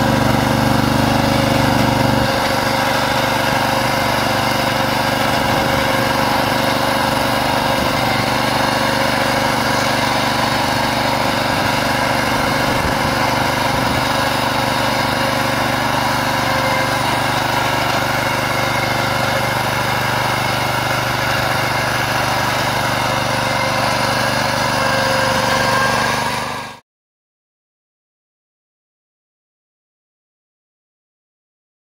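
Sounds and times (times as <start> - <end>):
rotary plough in soil: 0.0 - 26.8
small tractor engine running: 0.0 - 26.8.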